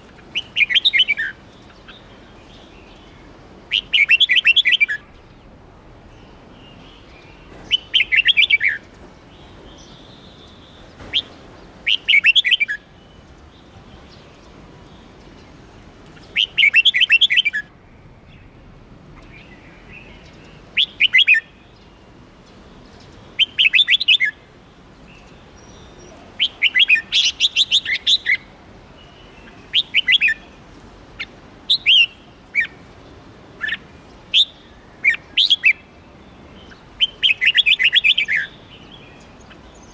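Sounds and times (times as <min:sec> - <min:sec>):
bird singing chirping phrases: 0:00.3 - 0:39.9.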